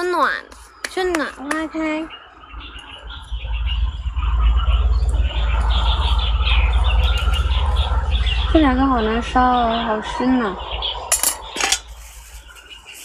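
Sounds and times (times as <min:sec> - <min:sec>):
high chirping: 0:00.0 - 0:13.0
wind buffeting microphone: 0:00.7 - 0:13.0.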